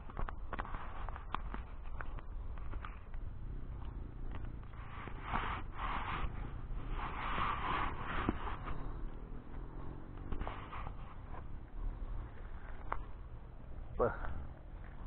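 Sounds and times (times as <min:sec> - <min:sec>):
rustling dry grass and leaves: 0:00.0 - 0:15.0.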